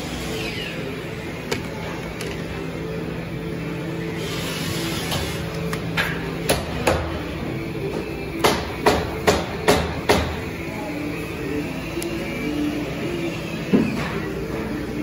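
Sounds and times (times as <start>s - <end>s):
workshop hum: 0.0s - 15.0s.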